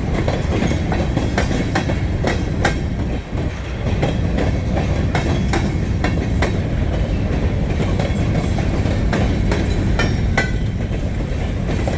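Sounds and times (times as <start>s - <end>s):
freight train rumbling: 0.0s - 11.9s
train wheels clicking and clanking: 0.0s - 11.9s.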